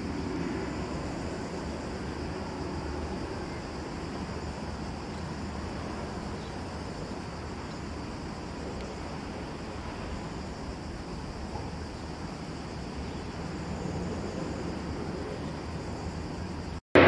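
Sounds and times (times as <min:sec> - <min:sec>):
distant aircraft engines rumbling: 0:00.0 - 0:17.0.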